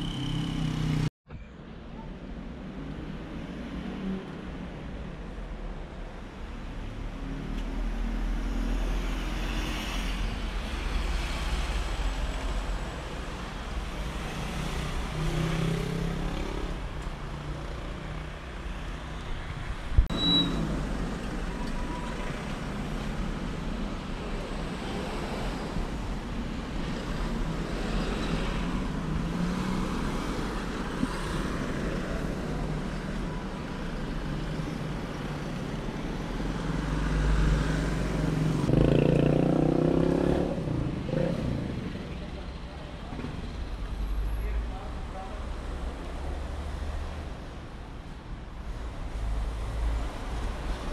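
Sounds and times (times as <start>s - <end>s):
passing traffic: 0.0s - 50.9s.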